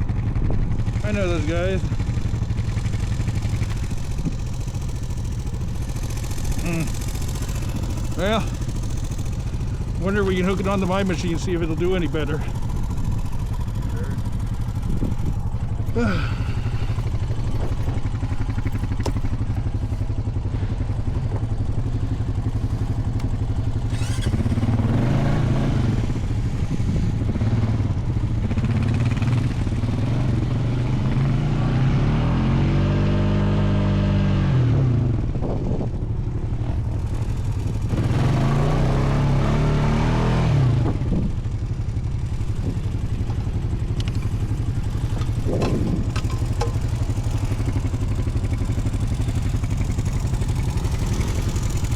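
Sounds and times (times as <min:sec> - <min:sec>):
atv engine idling and revving: 0:00.0 - 0:51.9.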